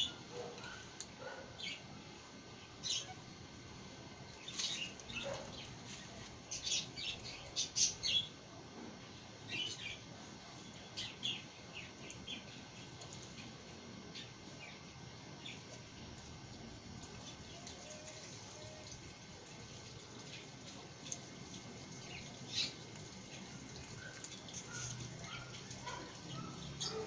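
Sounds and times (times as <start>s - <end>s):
small birds chirping: 0.0s - 3.5s, 4.3s - 8.4s, 9.4s - 19.0s, 19.7s - 27.0s
faint outdoor hiss: 0.0s - 27.0s.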